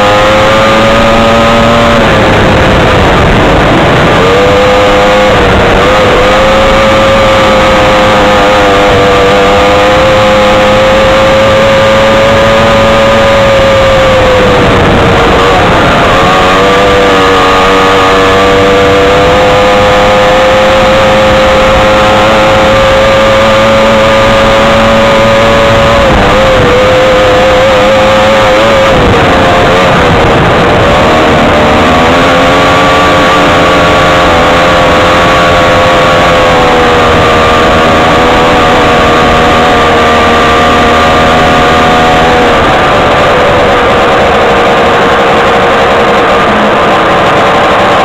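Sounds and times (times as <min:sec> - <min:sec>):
off-road vehicle engine under load: 0:00.0 - 0:48.0.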